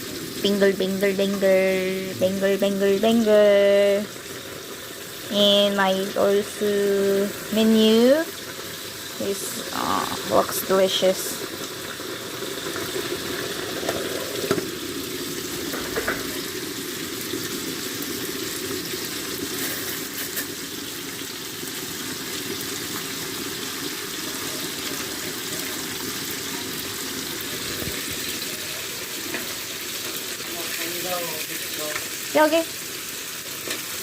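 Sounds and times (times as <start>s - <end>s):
stew bubbling and sizzling in a pan: 0.0s - 34.0s.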